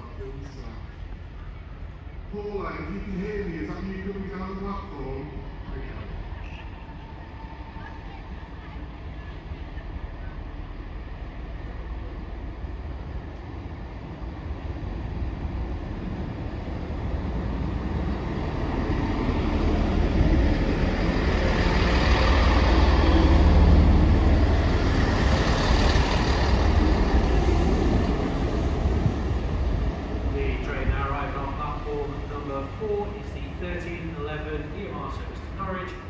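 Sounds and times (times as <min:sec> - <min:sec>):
diesel train engine rumble: 0:00.0 - 0:36.0.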